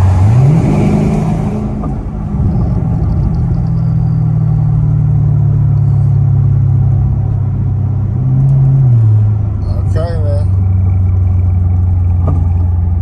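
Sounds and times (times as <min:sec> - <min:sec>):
car exhaust droning: 0:00.0 - 0:13.0.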